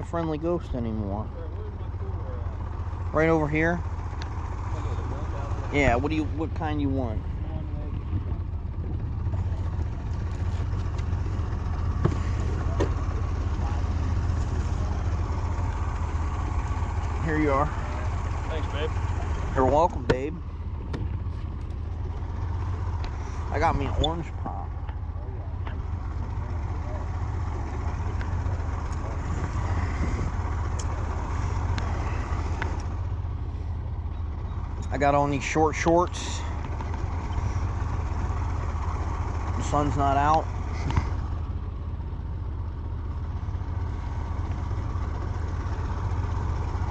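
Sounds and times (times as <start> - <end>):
outboard motor running: 0.0 - 46.9.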